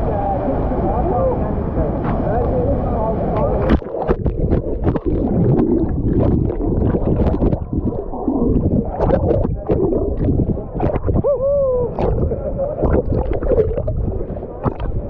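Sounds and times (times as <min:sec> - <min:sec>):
rushing churning water: 0:00.0 - 0:15.0.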